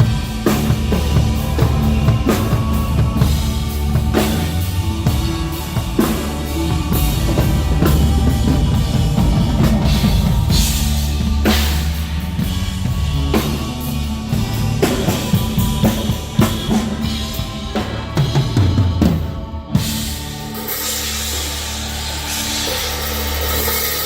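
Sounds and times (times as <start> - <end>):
drum kit with crash cymbals: 0.0 - 24.0
live rock band playing: 0.0 - 24.0.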